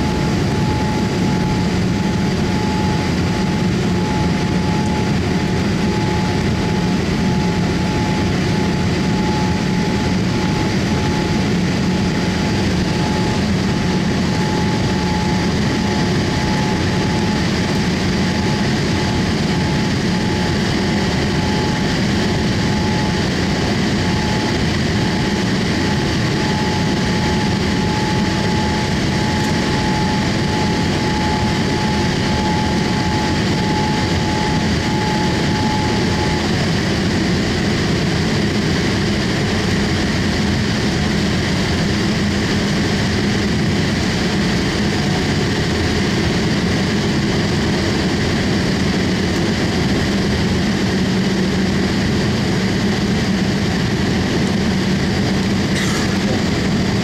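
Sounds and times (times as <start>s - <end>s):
jet engine deep roar: 0.0s - 57.0s
thin steady whine: 0.0s - 57.0s.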